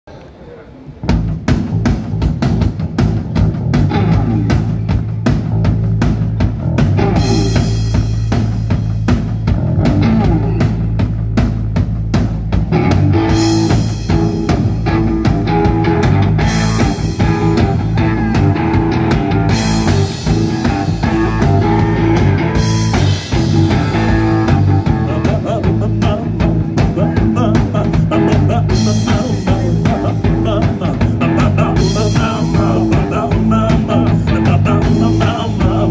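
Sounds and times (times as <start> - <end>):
electric guitar: 0.7 - 35.9
electric bass guitar: 0.9 - 35.9
drum kit: 1.0 - 35.9.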